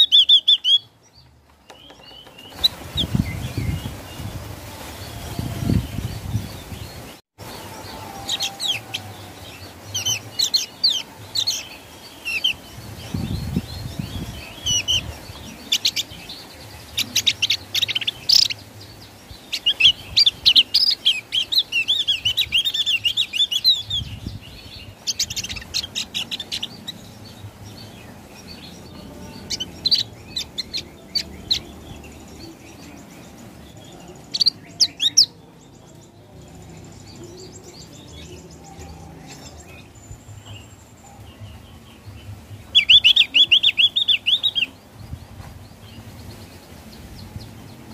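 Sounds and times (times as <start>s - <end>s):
bird singing chirps and warbles: 0.0s - 47.9s.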